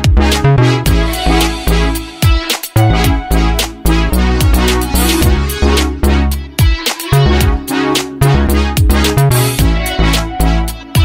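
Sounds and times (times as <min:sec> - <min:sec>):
deep sustained bass notes: 0:00.0 - 0:02.2, 0:02.8 - 0:06.6, 0:07.2 - 0:10.9
steady drum beat: 0:00.0 - 0:10.0.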